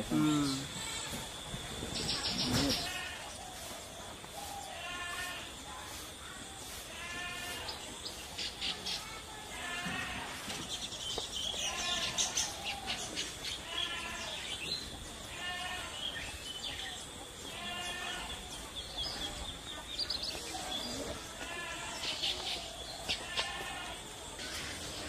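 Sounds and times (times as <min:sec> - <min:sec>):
birds chattering chirps: 0:00.0 - 0:25.0.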